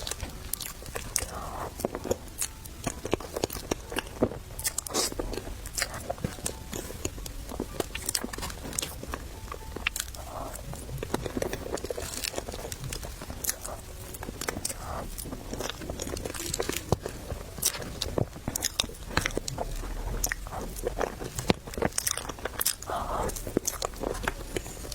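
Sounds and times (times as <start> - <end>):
crunchy bites and chewing: 0.0 - 24.9.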